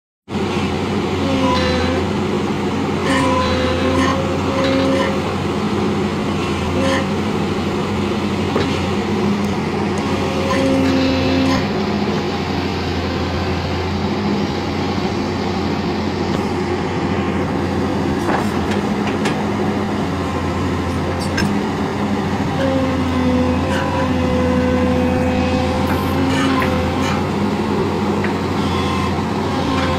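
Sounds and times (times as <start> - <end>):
excavator diesel engine under load: 0.3 - 29.9.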